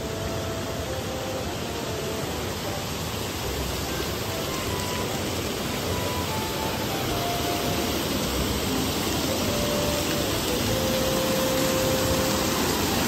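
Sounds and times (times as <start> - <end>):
soft background music: 0.0 - 13.0
waterfall rushing: 0.0 - 13.0.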